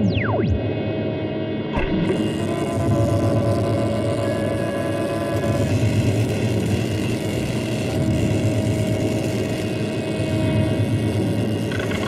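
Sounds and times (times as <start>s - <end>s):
electrical machine hum: 0.0s - 12.0s.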